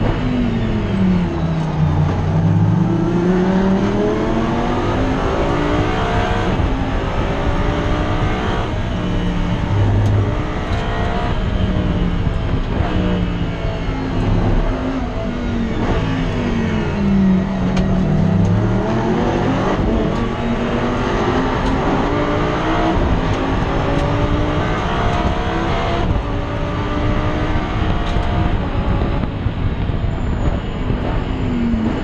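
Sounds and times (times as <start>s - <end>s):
race car engine revving: 0.0s - 32.0s.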